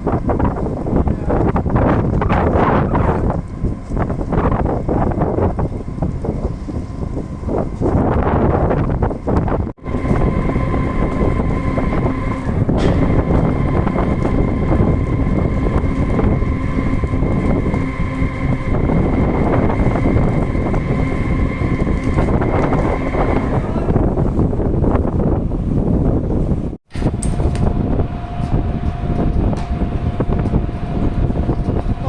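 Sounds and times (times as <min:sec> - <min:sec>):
boat engine running: 0:00.0 - 0:32.0
wind buffeting microphone: 0:00.0 - 0:32.0.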